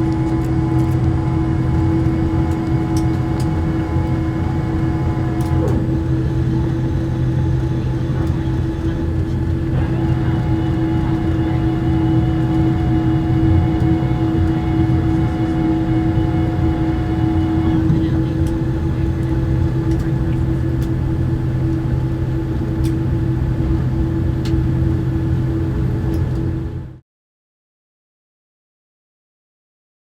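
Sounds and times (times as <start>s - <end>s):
aircraft engine and air system hum: 0.0s - 27.0s.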